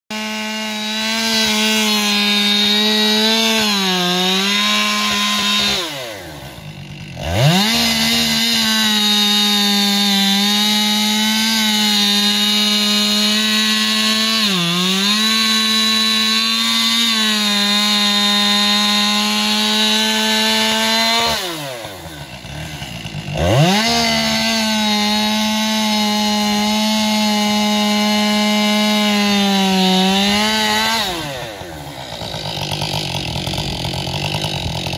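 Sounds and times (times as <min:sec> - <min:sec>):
chainsaw engine revving: 0:00.1 - 0:34.9.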